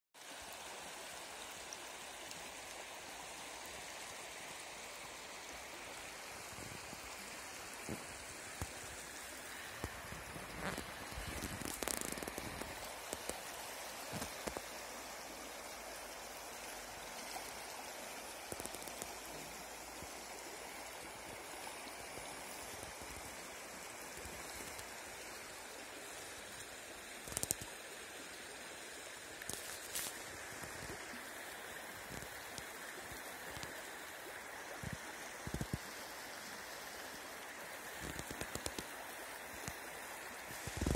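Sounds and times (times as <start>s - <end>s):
river flowing over stones: 0.2s - 40.9s.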